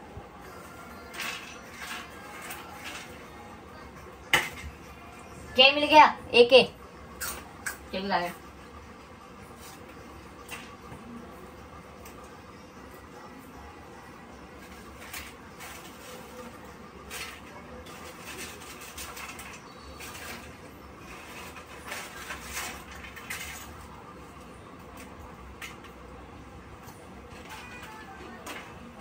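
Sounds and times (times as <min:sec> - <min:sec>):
utensils and pots clinking: 0:00.4 - 0:06.0, 0:07.0 - 0:29.0.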